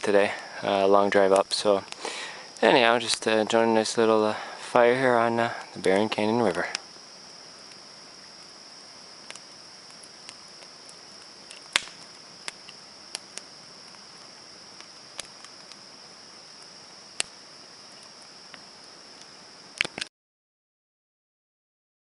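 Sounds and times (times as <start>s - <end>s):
campfire crackling and popping: 0.0s - 20.1s
night insects chirring: 0.0s - 20.1s.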